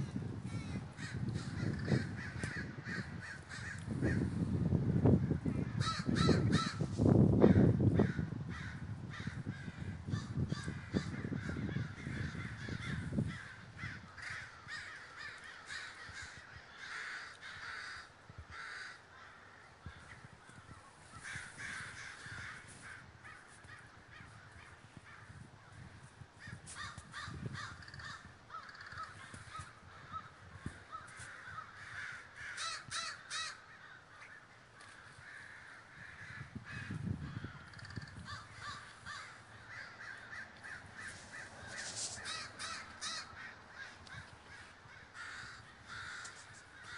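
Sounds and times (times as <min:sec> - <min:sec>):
crows cawing: 0:00.5 - 0:04.4, 0:05.2 - 0:46.9.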